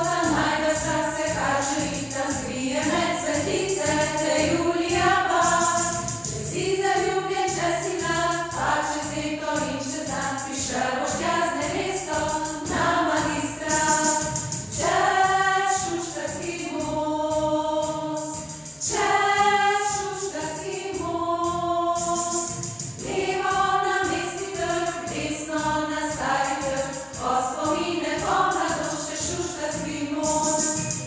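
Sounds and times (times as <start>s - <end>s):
children's choir singing: 0.0s - 31.0s
instrumental accompaniment with beat: 0.0s - 31.0s.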